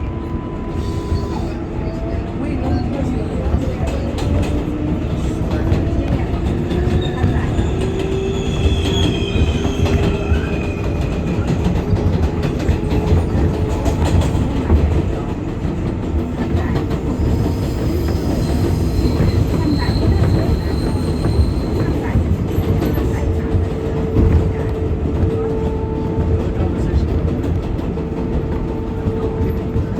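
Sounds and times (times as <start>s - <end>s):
rumble of train wheels on rail: 0.0s - 29.9s.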